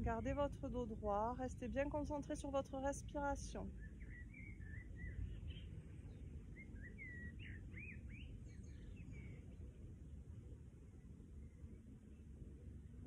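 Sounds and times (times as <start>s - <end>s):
birds chirping faintly: 0.0s - 13.0s
low outdoor rumble: 0.0s - 13.0s.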